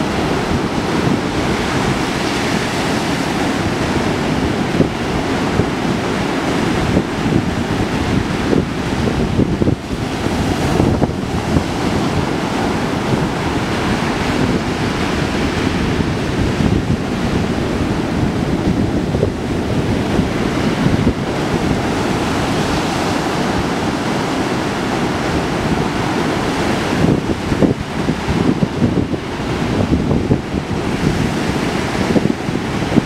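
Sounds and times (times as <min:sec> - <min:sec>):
surf washing up a beach: 0:00.0 - 0:33.0
wind buffeting microphone: 0:00.0 - 0:33.0.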